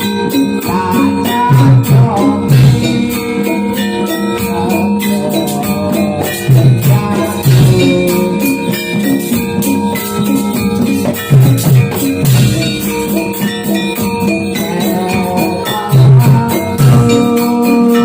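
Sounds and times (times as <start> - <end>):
heavy hand-drum strokes: 0.0 - 18.0
jangling percussion rhythm: 0.0 - 18.0
ringing metallophone notes: 0.0 - 18.0.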